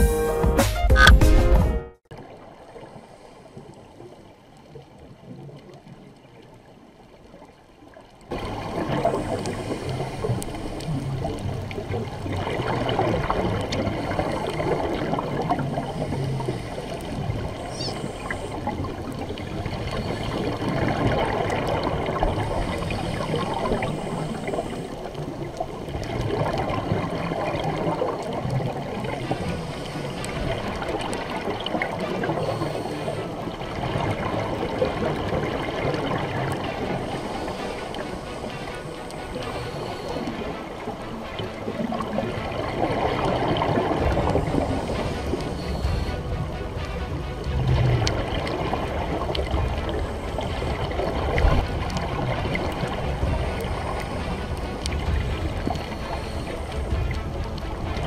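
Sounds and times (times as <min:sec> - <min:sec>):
muffled underwater rushing: 0:02.1 - 0:58.0.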